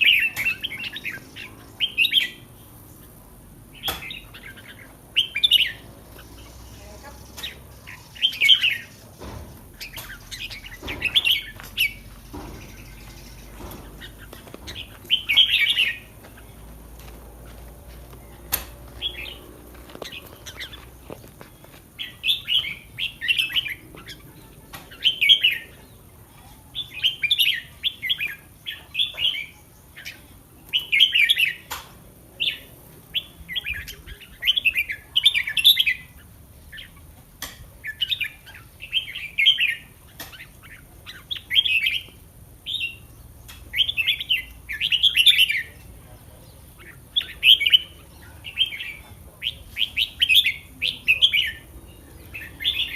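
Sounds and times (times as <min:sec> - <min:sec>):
bird singing: 0:00.0 - 0:31.7, 0:32.3 - 0:37.1, 0:37.8 - 0:52.9.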